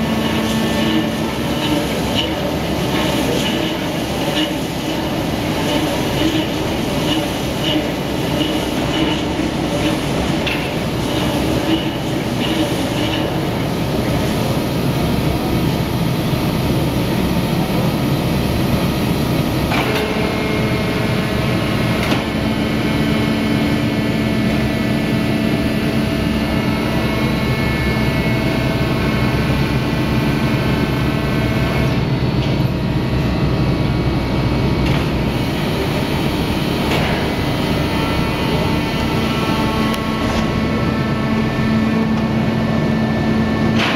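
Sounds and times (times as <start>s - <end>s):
conveyor machinery running: 0.0s - 43.9s.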